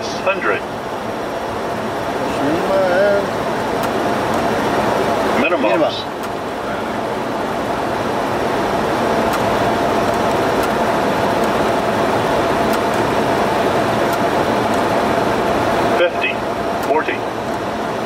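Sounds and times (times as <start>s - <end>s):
airflow and engine rush: 0.0s - 18.0s
faint steady whine: 0.0s - 18.0s.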